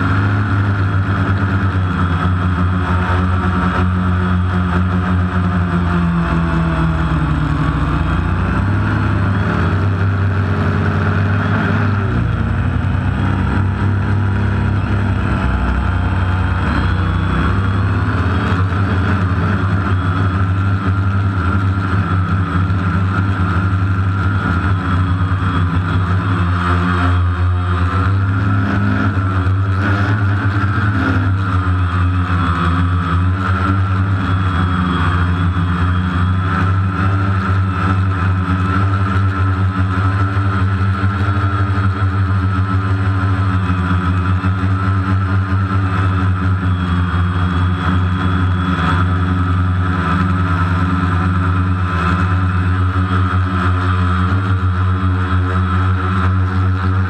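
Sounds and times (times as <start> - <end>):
drone motors and propellers buzzing: 0.0 - 57.0.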